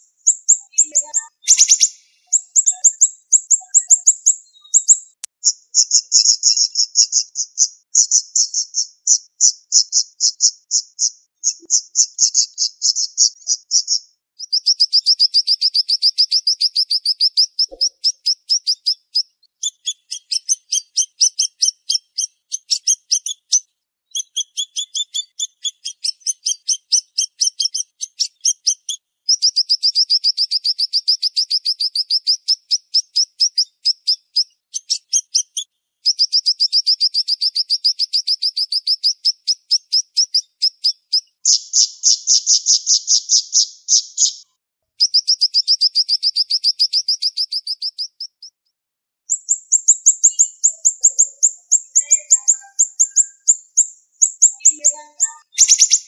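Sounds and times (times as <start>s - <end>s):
songbird singing rapid trills: 0.0s - 44.4s, 45.0s - 48.6s, 49.3s - 56.0s.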